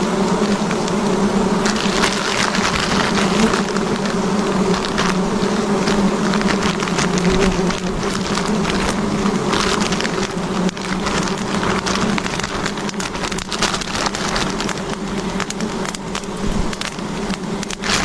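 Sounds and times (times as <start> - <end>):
bees buzzing: 0.0 - 18.0
small crackles and rustles: 0.0 - 18.0.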